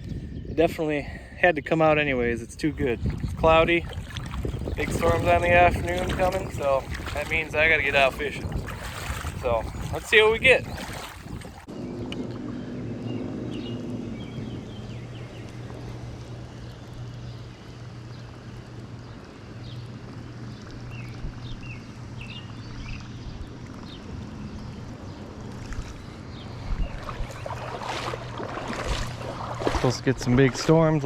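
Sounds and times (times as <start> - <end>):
wind noise: 0.0 - 16.1, 20.9 - 31.0
boat motor humming: 0.0 - 31.0.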